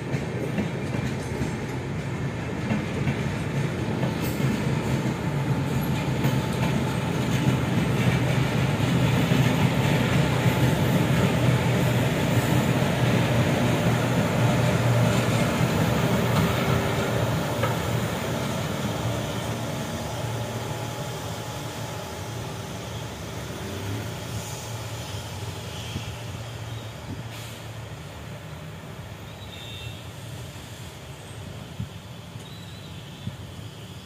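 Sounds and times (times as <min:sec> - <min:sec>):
electric locomotives passing: 0:00.0 - 0:34.0.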